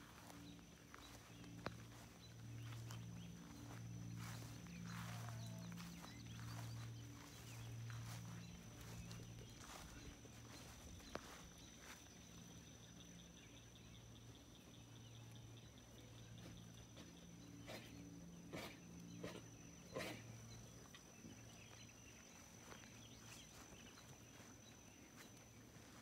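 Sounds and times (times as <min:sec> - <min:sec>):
faint insect chirping: 0:00.0 - 0:26.0
faint low hum: 0:00.0 - 0:26.0.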